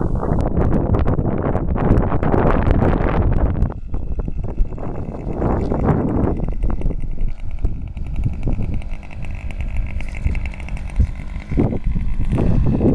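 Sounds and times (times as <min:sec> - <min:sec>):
model airplane engine buzzing: 0:00.0 - 0:12.9
wind buffeting microphone: 0:00.0 - 0:12.9.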